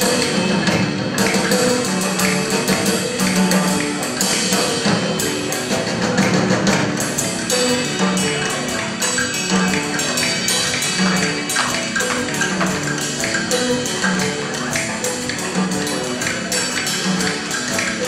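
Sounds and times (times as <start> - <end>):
electric guitars: 0.0 - 18.0
hand percussion clatter: 0.0 - 18.0.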